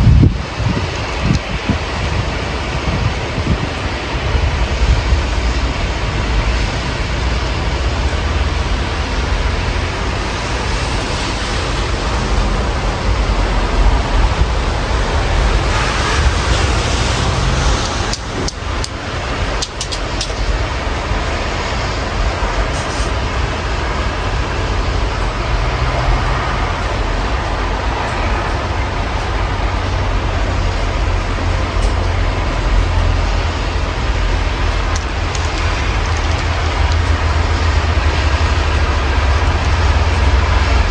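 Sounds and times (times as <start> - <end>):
passing vehicles rumbling: 0.0 - 40.9
rain hiss on wet road: 0.0 - 40.9.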